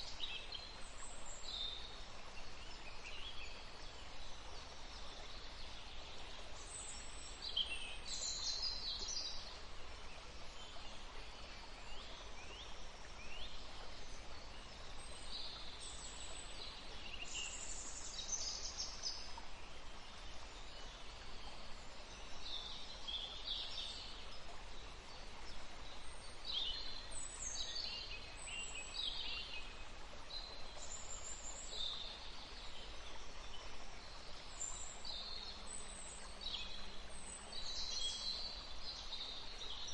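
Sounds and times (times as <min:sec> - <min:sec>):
forest stream rushing: 0:00.0 - 0:39.9
songbirds chirping: 0:00.0 - 0:39.9.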